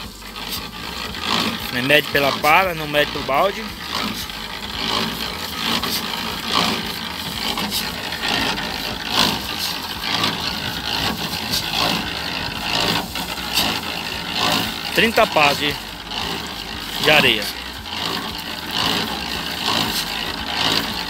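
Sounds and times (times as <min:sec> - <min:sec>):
concrete mixer running: 0:00.0 - 0:21.0
shovel scraping sand: 0:00.0 - 0:21.0.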